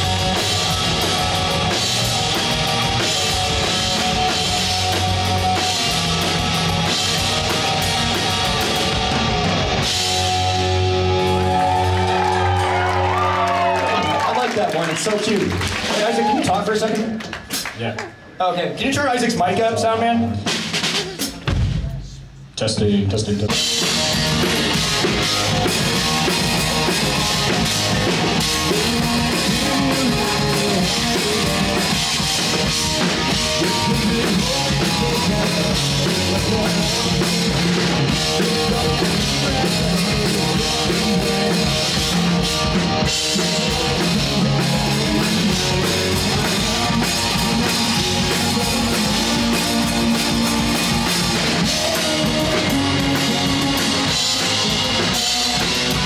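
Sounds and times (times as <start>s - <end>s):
rock band playing live: 0.0s - 18.4s, 19.0s - 22.4s, 23.2s - 56.0s.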